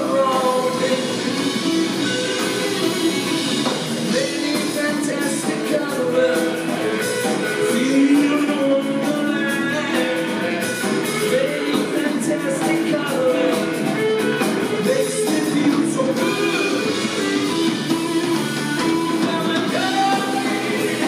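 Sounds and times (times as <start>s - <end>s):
drum kit: 0.0s - 21.0s
electric bass: 0.0s - 21.0s
electric guitar: 0.0s - 21.0s.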